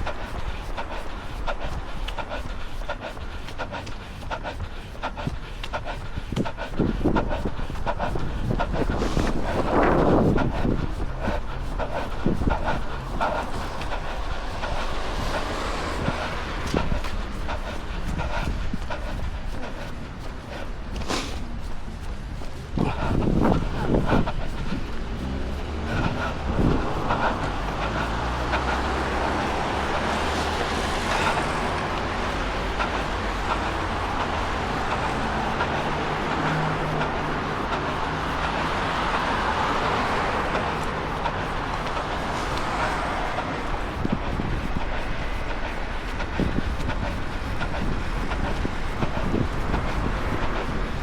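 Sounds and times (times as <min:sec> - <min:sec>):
street traffic noise: 0:00.0 - 0:51.0
vehicle passing: 0:00.0 - 0:51.0
wind buffeting microphone: 0:00.0 - 0:51.0.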